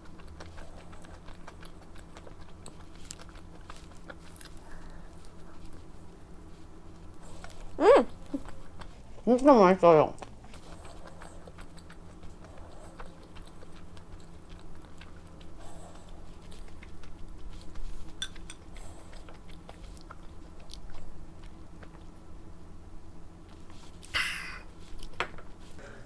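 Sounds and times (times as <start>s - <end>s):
close chewing and mouth sounds: 0.0s - 26.0s.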